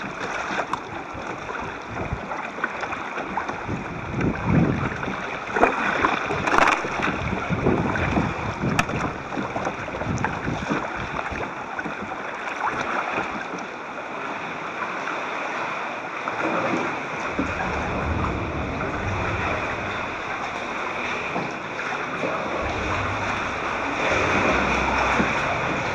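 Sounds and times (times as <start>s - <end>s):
water splashing around kayak: 0.0s - 25.9s.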